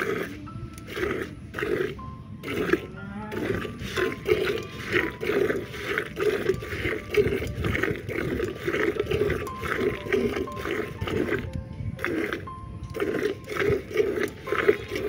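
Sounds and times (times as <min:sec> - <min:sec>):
milk squirting into metal pail: 0:00.0 - 0:15.0.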